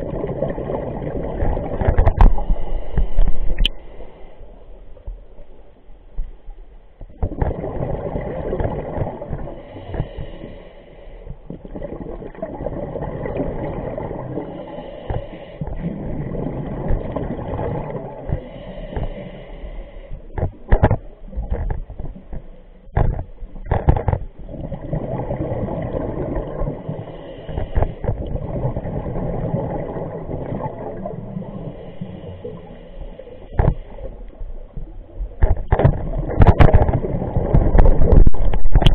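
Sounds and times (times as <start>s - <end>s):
underwater regulator bubbling: 0.0s - 3.9s, 7.0s - 10.5s, 11.3s - 19.4s, 20.2s - 32.8s, 33.4s - 38.9s.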